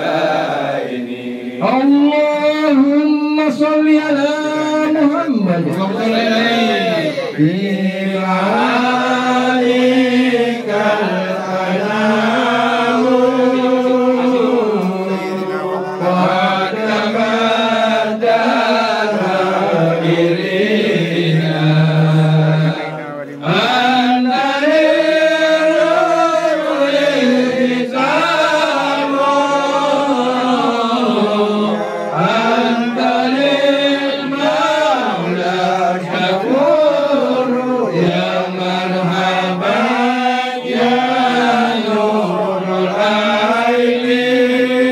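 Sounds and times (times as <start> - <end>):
slow vocal chanting: 0.0 - 44.9.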